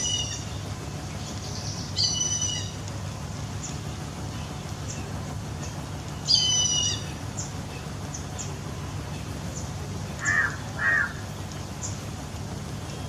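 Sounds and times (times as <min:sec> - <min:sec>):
gulls calling: 0:00.0 - 0:13.0
steady low hum: 0:00.0 - 0:13.0.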